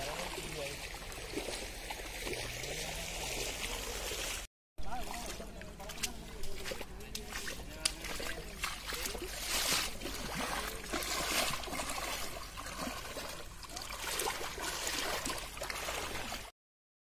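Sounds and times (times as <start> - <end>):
floodwater rushing: 0.0 - 16.5.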